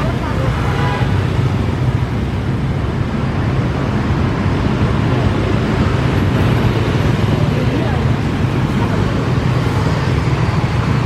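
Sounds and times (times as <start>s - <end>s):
cars passing: 0.0s - 11.0s
motorcycles passing: 0.0s - 11.0s.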